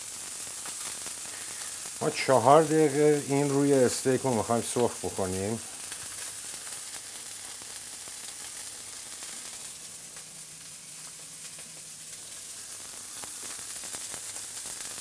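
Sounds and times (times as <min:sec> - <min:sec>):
steaks sizzling in frying pan: 0:00.0 - 0:15.0.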